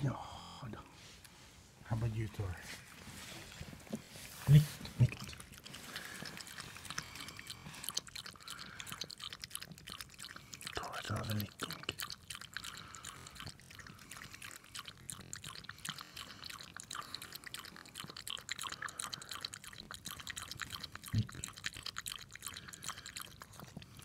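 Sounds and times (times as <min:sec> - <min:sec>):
dog lapping water from metal bowl: 0:04.8 - 0:24.0.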